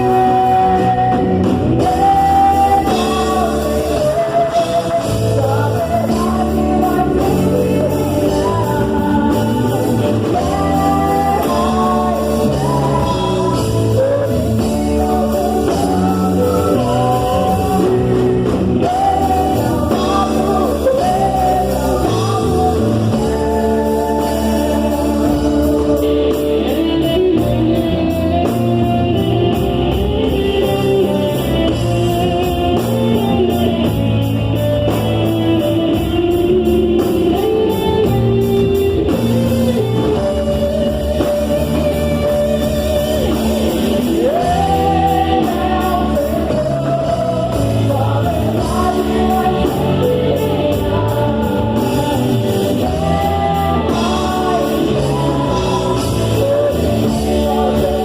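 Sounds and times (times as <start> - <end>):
band with guitar and beat: 0.0 - 58.0
people singing: 0.0 - 58.0.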